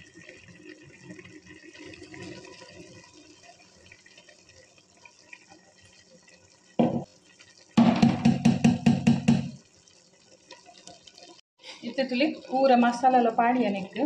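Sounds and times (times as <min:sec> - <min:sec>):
clams boiling and bubbling: 0:00.0 - 0:14.0.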